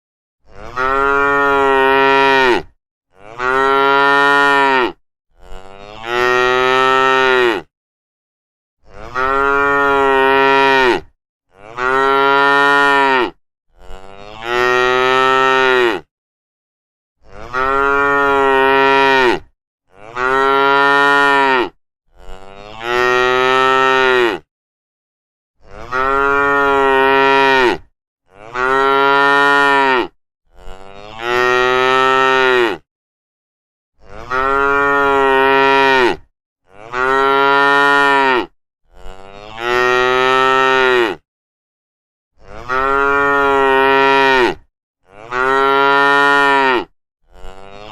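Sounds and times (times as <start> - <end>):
cow mooing: 0.4 - 7.7, 8.8 - 16.1, 17.2 - 24.5, 25.6 - 32.8, 34.0 - 41.2, 42.4 - 47.9.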